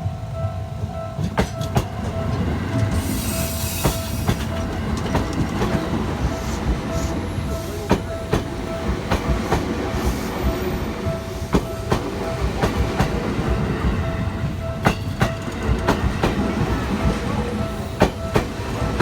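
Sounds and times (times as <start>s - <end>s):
level crossing warning signal: 0.0s - 19.0s
low train rumble: 0.0s - 19.0s
train wheels clacking over rail joints: 1.2s - 19.0s.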